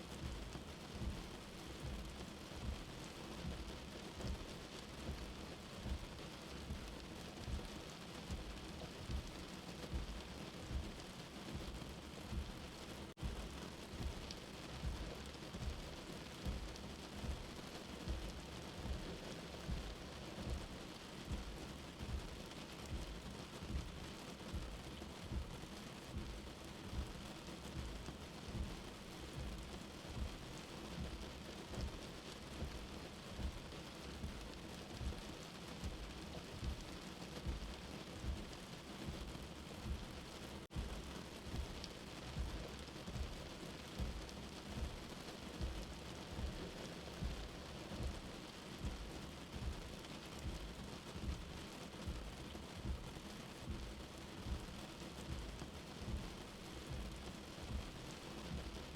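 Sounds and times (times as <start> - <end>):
steady rain: 0.0 - 58.9
slow low heartbeat: 0.1 - 58.9.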